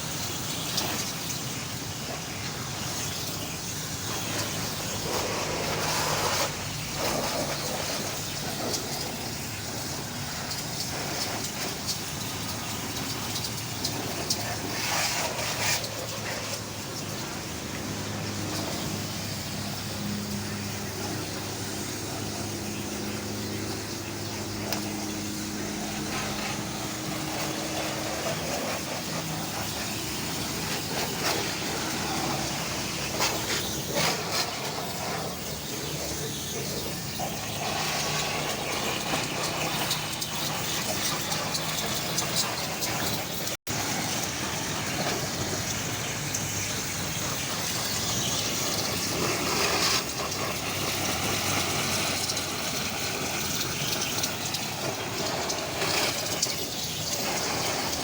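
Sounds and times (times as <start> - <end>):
continuous hiss: 0.0 - 58.0
motor running: 2.0 - 58.0.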